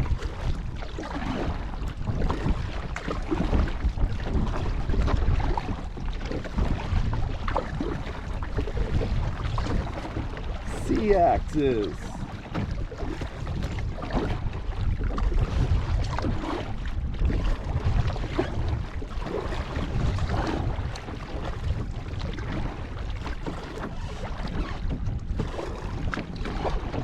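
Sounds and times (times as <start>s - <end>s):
water splashing around kayak: 0.0s - 27.0s
wind buffeting microphone: 0.0s - 27.0s.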